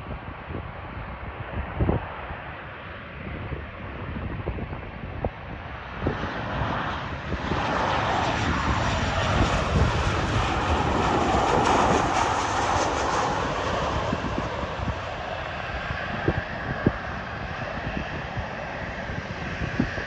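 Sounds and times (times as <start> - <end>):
airliner engines passing: 0.0 - 20.0.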